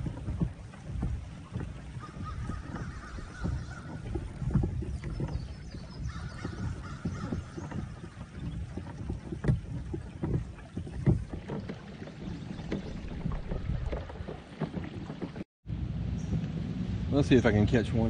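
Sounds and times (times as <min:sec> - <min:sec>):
small knocks: 0:00.0 - 0:15.4
water sloshing against a hull: 0:00.0 - 0:18.0.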